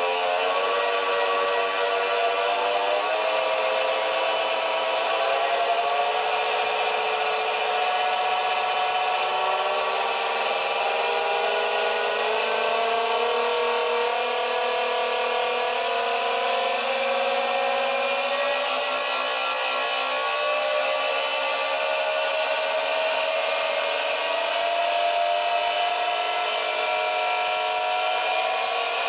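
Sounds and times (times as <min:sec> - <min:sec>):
buzzing synth drone: 0:00.0 - 0:29.0.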